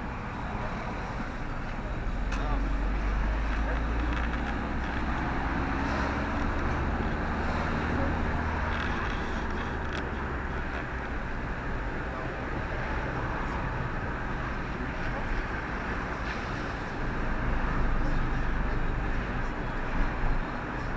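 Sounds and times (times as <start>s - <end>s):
vehicle rumble and road noise: 0.0s - 20.9s.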